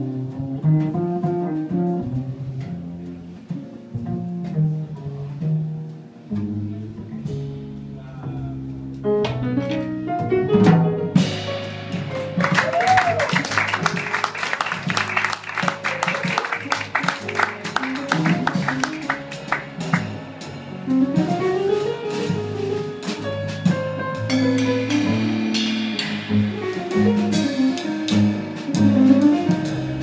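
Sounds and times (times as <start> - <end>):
drum kit with cymbals: 0.0 - 30.0
jazz band playing: 0.0 - 30.0.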